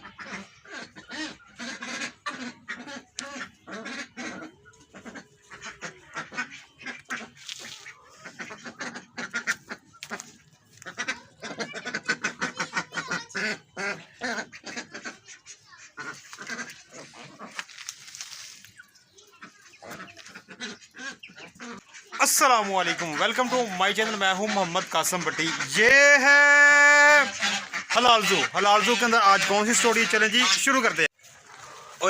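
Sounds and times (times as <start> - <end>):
ducks quacking: 0.0 - 32.0.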